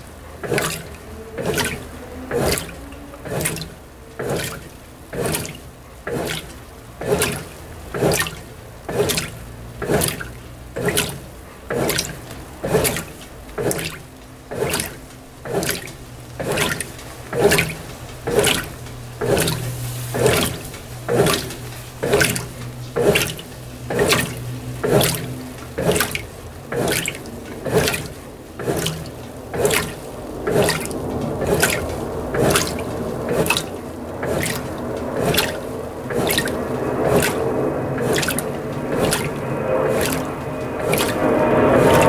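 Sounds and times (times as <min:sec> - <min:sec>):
washing machine water sloshing: 0:00.0 - 0:42.0.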